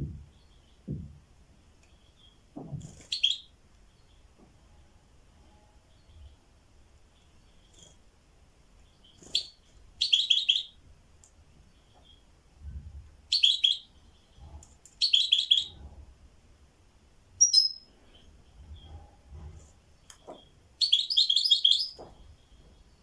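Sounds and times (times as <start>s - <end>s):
songbird chirping: 0.0s - 15.9s, 16.9s - 23.0s.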